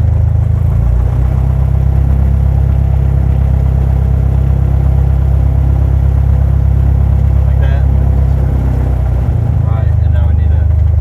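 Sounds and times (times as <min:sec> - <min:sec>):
airplane piston engine droning: 0:00.6 - 0:11.0.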